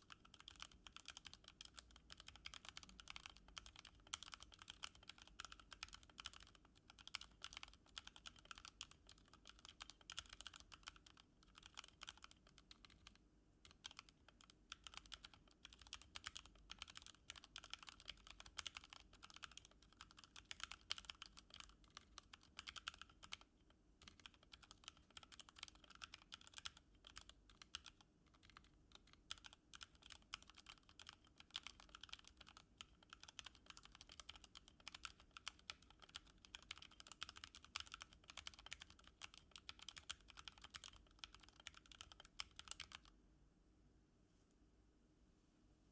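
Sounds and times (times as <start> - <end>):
mechanical keyboard clicks: 0.0 - 43.1.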